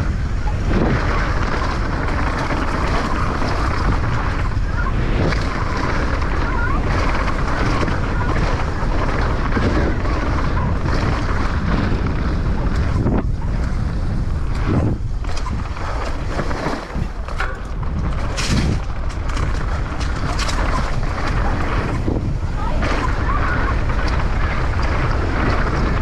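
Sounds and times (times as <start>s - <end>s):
bike knocks and rattles: 0.0s - 26.0s
bike tyre roar: 0.0s - 26.0s
wind on microphone: 0.0s - 26.0s.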